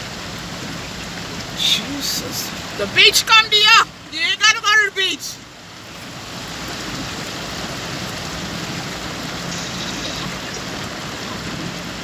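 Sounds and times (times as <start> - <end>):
low engine hum: 0.0 - 12.0
water rushing and tyre spray: 0.0 - 12.0.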